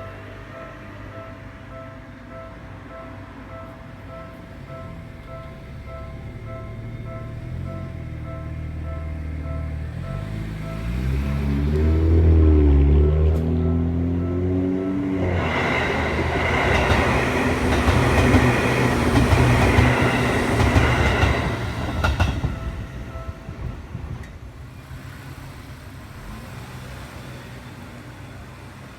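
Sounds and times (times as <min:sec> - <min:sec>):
train wheels rumbling on rails: 0:05.2 - 0:28.9.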